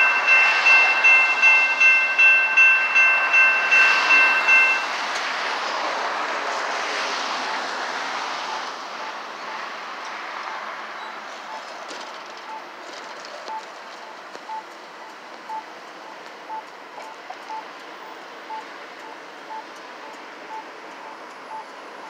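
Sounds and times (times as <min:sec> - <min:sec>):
railroad crossing bell dinging: 0:00.0 - 0:05.8, 0:08.5 - 0:12.8, 0:13.5 - 0:22.0
road traffic noise: 0:00.0 - 0:22.0.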